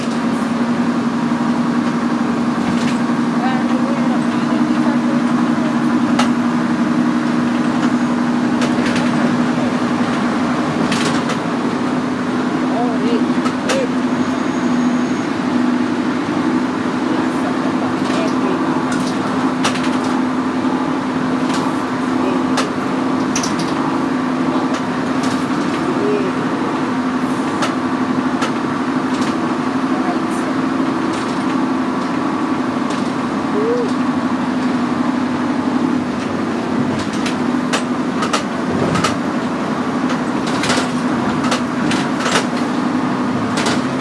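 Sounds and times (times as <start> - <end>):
bus engine hum: 0.0 - 44.0
road noise: 0.0 - 44.0.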